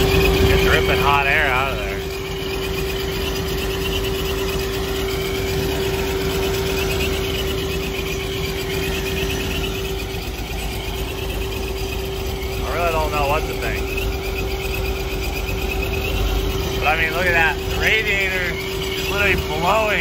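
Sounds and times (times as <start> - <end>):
car engine idling: 0.0 - 20.0
supercharger whine: 0.0 - 20.0.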